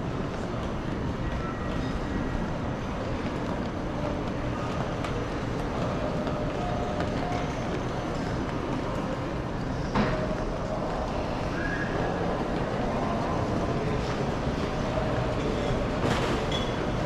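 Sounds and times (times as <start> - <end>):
rumbling din of a terminal hall: 0.0 - 17.0
suitcases rolling on stone floor: 0.0 - 17.0.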